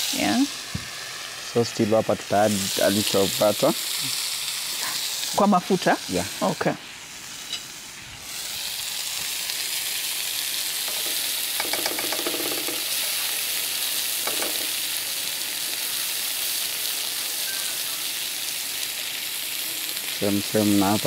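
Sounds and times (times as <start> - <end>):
chicken sizzling in frying pan: 0.0 - 21.0.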